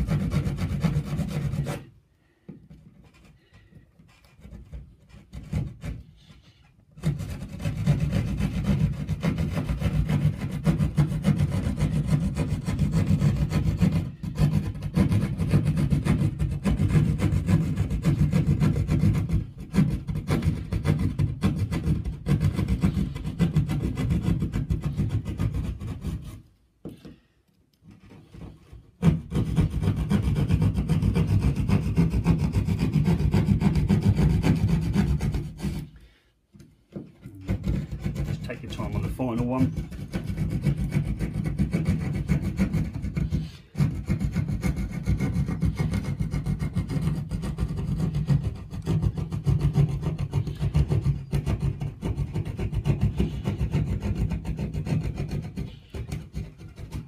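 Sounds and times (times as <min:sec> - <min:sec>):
hand saw cutting plasterboard: 0:00.0 - 0:27.2, 0:27.8 - 0:36.2, 0:36.9 - 0:57.0.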